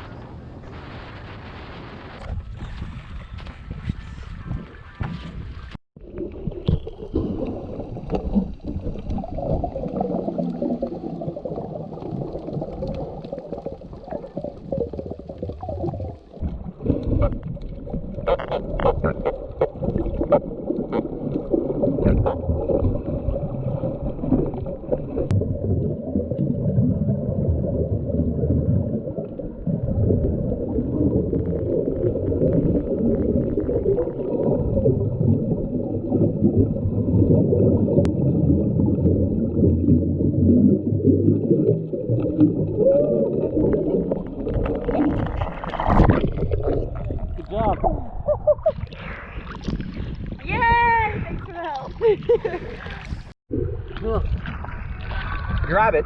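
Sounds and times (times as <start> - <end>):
underwater rumble and bubbles: 0.0 - 56.0.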